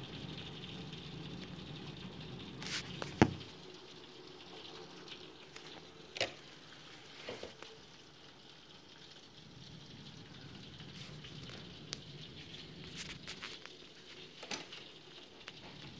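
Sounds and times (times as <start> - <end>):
heavy rain on a window: 0.0 - 15.9.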